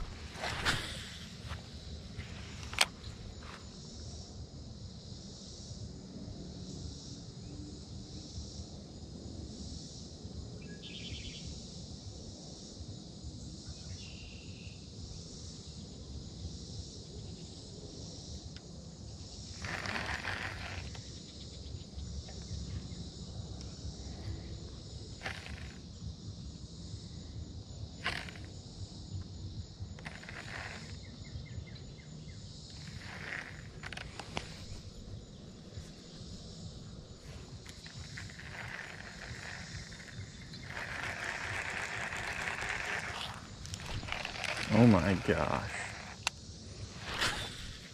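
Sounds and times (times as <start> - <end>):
insects buzzing: 0.0 - 47.9
short pulsed insect trills: 0.0 - 47.9.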